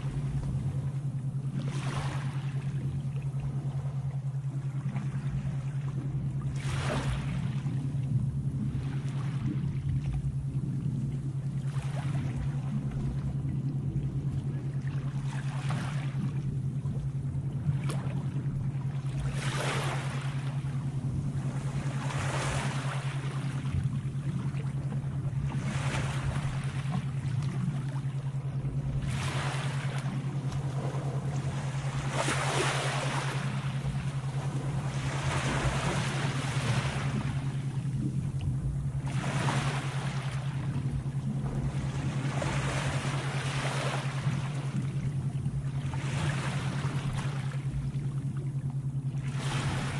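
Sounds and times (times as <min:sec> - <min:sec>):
sea waves washing: 0:00.0 - 0:49.9
steady low hum: 0:00.0 - 0:49.9.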